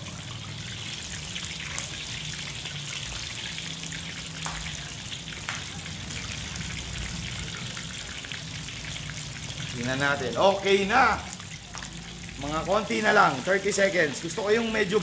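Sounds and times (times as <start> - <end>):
chicken deep-frying in oil: 0.0 - 15.0
sharp oil crackles: 0.0 - 15.0.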